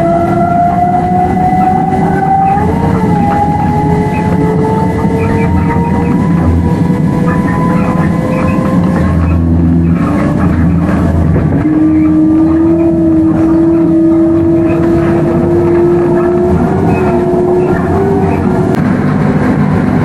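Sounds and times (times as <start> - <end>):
traction motor whine: 0.0 - 20.0
train running gear rumble: 0.0 - 20.0.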